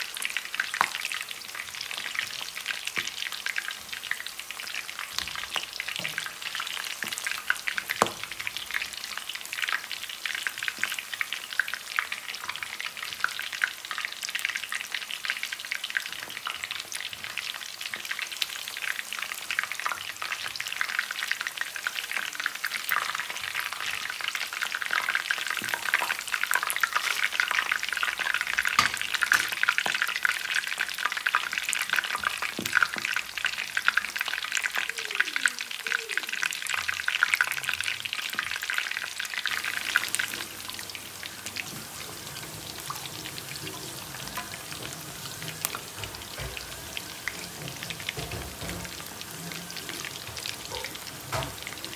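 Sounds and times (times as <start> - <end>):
meat sizzling in hot oil: 0.0 - 51.9.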